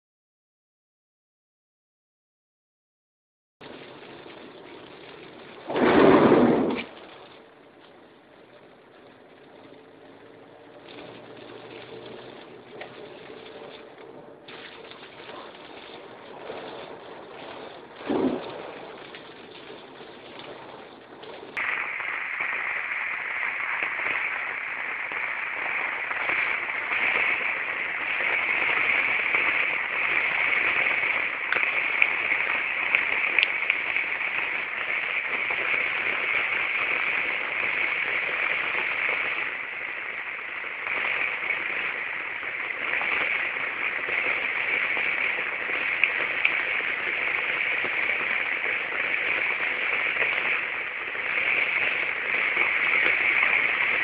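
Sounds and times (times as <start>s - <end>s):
rain falling on a car: 3.6s - 54.0s
raindrops ticking: 3.6s - 54.0s.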